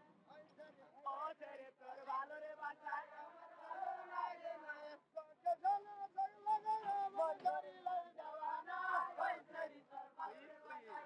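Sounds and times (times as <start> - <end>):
voices singing a melody: 2.0 - 11.0.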